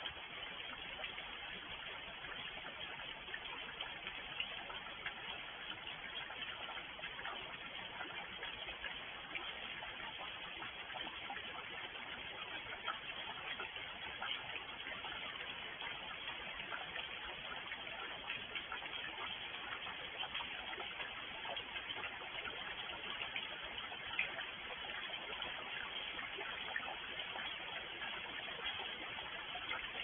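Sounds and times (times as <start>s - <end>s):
raindrop ticks: 0.0s - 30.0s.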